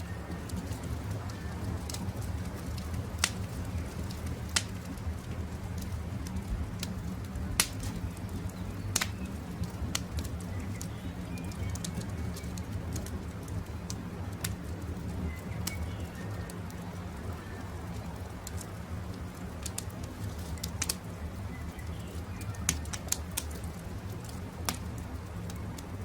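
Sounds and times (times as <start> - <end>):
birds chirping: 0.0 - 25.8
campfire crackling: 0.0 - 26.0.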